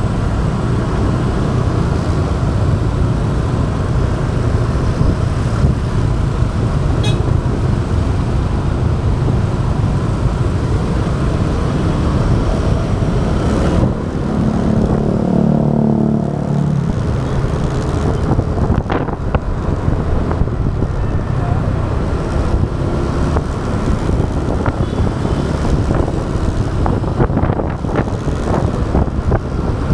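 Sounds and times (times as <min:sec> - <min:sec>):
motorbike engine and road rumble: 0:00.0 - 0:29.9.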